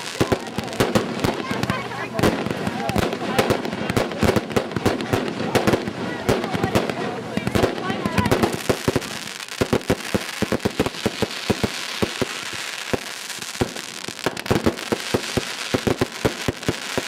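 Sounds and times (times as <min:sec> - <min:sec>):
fireworks bangs and pops: 0:00.0 - 0:17.0
hissing crackle: 0:00.0 - 0:17.0.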